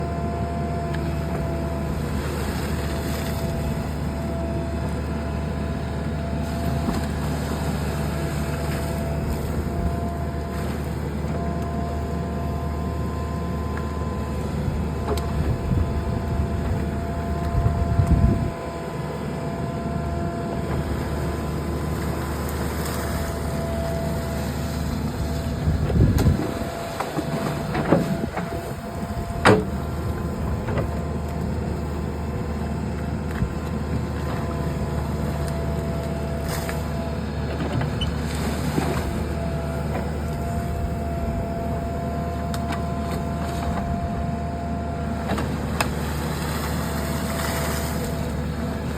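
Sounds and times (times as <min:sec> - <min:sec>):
backhoe engine running: 0:00.0 - 0:48.9.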